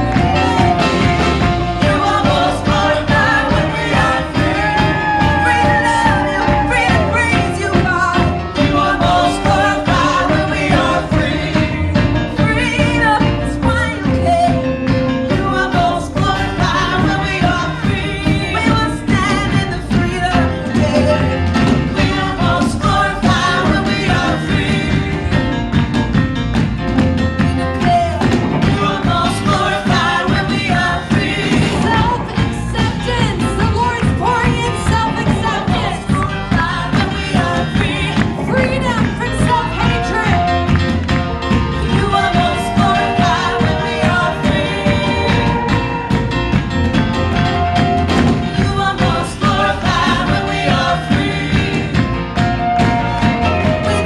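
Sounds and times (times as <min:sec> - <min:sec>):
people singing: 0:00.0 - 0:26.3, 0:27.4 - 0:54.0
worship band playing: 0:00.0 - 0:54.0.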